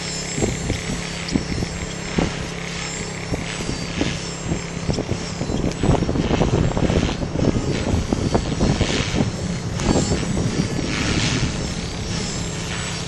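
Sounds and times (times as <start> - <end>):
rc helicopter rotor and motor: 0.0 - 13.0.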